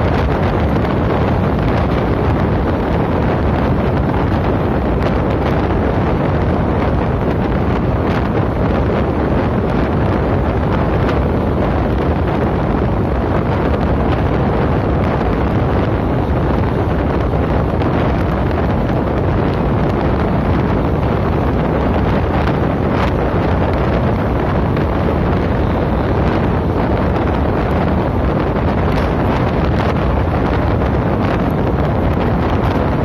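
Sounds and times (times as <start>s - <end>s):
moving train rumble: 0.0s - 33.0s
wind buffeting microphone: 0.0s - 33.0s.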